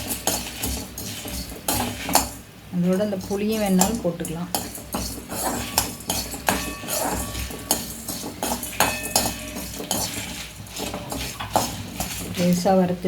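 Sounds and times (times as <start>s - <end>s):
metal spoon scraping a pan: 0.0s - 12.7s.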